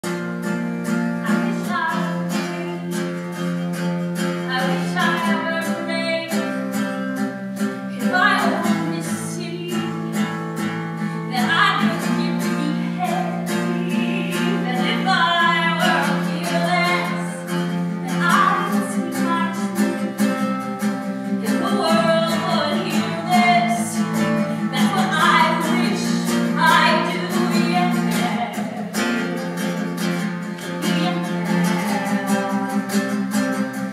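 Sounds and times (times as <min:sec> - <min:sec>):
acoustic guitar strumming: 0:00.0 - 0:33.9.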